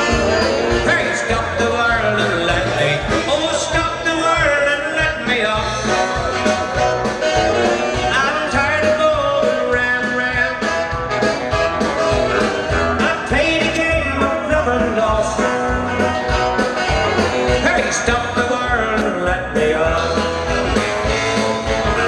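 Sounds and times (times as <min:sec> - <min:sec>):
live country band playing: 0:00.0 - 0:22.0.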